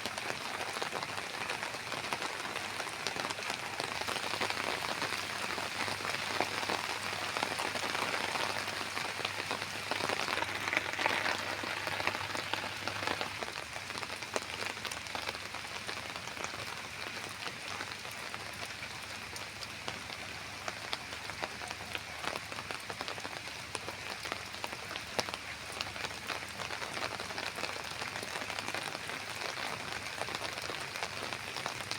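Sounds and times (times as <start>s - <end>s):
rain drops pattering: 0.0s - 31.9s.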